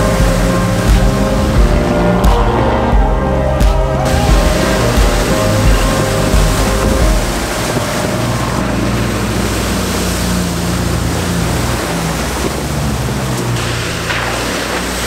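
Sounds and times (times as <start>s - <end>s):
diesel engines under load: 0.0s - 15.0s
water and mud spraying: 0.0s - 15.0s.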